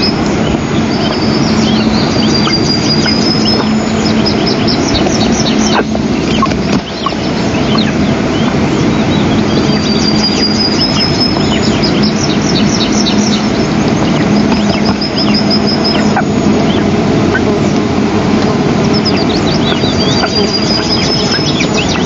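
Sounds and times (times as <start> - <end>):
long steady bird whistle: 0.0 - 17.8, 18.8 - 22.0
birds chirping: 0.0 - 22.0
low hum: 0.0 - 22.0.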